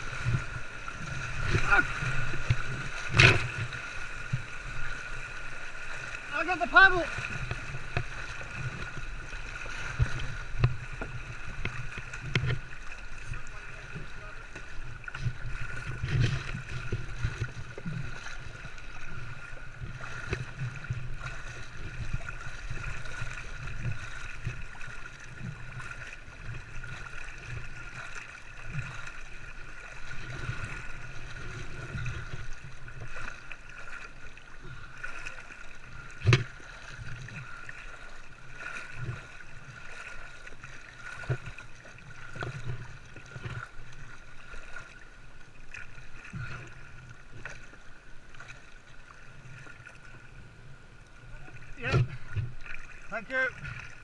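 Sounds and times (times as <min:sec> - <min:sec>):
river rapid rushing and splashing: 0:00.0 - 0:54.0.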